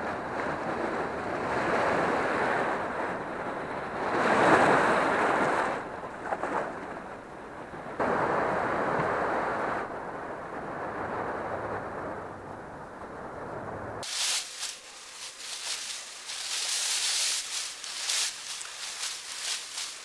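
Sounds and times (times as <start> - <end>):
wind and surf rushing: 0.0 - 20.0.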